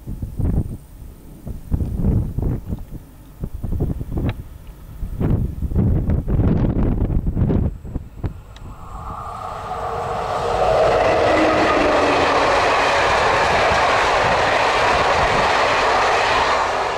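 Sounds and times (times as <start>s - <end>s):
train passing on rails: 1.0s - 16.9s.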